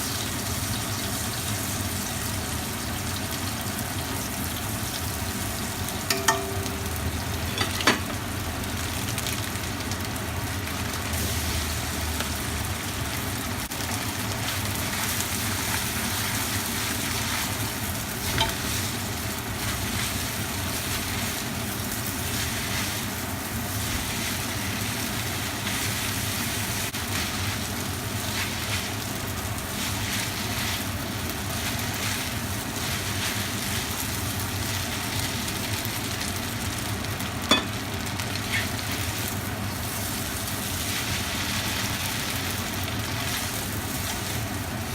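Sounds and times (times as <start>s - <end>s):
food sizzling in a pan: 0.0s - 44.9s.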